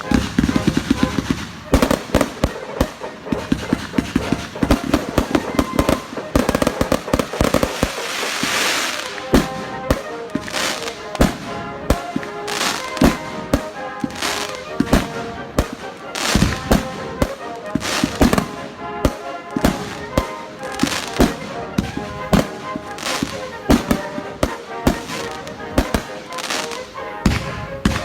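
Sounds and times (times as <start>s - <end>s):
fireworks bangs and pops: 0.0s - 28.0s
fireworks crackling hiss: 0.0s - 28.0s.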